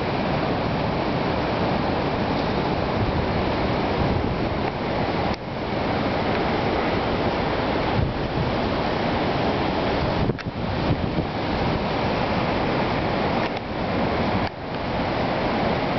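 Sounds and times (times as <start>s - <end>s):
surf pounding: 0.0s - 15.9s
wind gusting over microphone: 0.0s - 15.9s.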